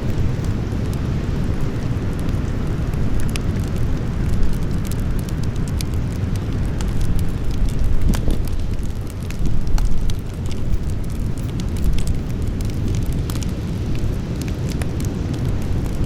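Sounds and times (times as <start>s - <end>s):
low fire rumble: 0.0s - 16.0s
wood crackling and popping: 0.0s - 16.0s.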